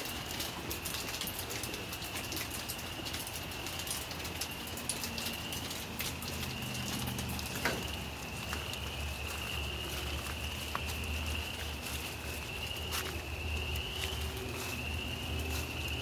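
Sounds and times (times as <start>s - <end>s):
light rain and ice tapping: 0.0s - 16.0s.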